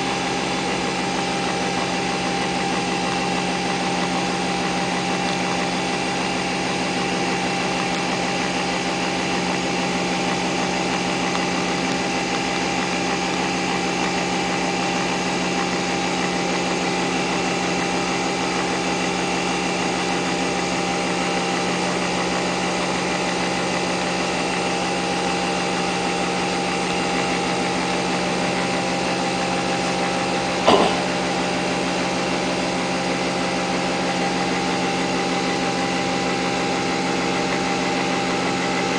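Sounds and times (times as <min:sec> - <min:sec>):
coffee machine motor whirring: 0:00.0 - 0:38.9.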